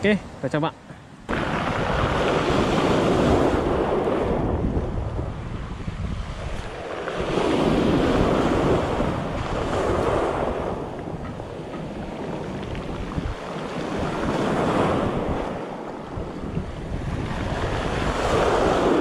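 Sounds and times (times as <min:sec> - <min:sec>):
wind rumbling on microphone: 0:01.2 - 0:19.0
surf washing over rocks: 0:01.3 - 0:19.0.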